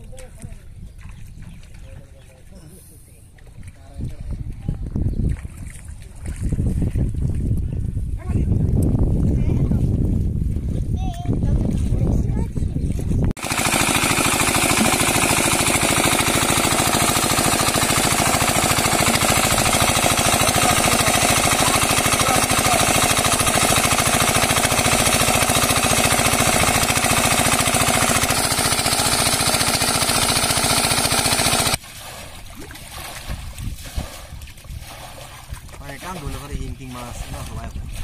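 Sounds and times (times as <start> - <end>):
engine-driven water pump running: 0.0 - 7.4, 13.4 - 38.0.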